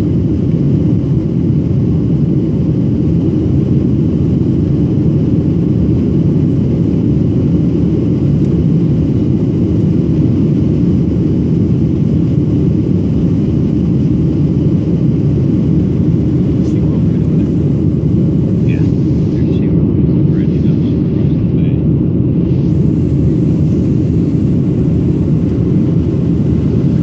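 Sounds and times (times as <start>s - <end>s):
jet engines low rumble: 0.0s - 27.0s
airflow past fuselage: 2.1s - 27.0s.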